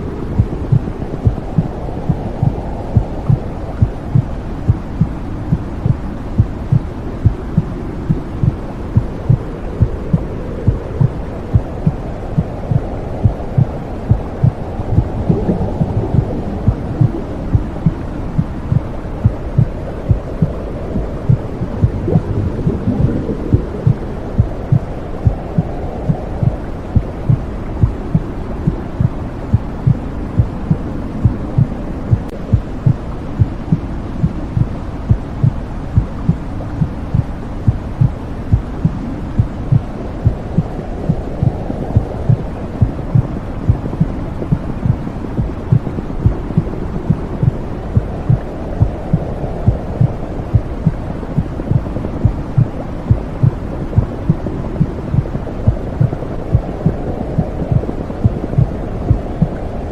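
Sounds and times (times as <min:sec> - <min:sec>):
low whooshing hum: 0:00.0 - 0:59.9
steady heartbeat: 0:00.3 - 0:59.7.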